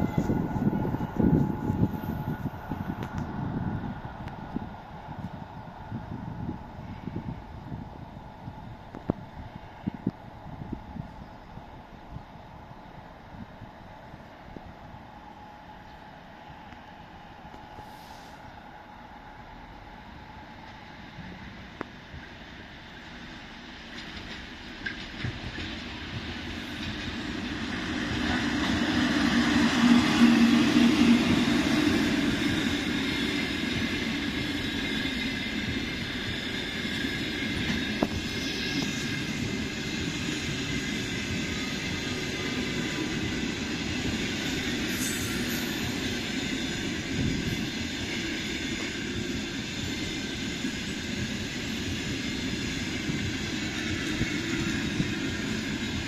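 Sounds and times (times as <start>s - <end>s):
electric locomotive passing: 0.0s - 56.0s
train wheels running on rails: 0.0s - 56.0s.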